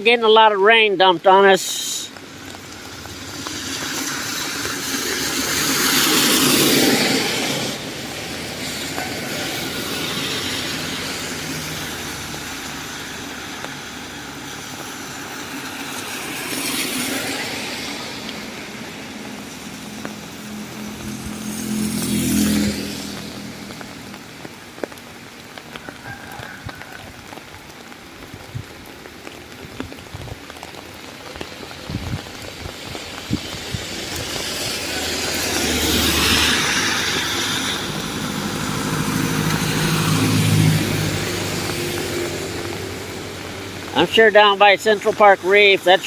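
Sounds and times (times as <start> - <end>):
heavy rain pouring: 0.0 - 46.0
vehicle engine hum: 1.0 - 26.6, 27.3 - 46.0
tyre hiss on wet road: 1.5 - 46.0.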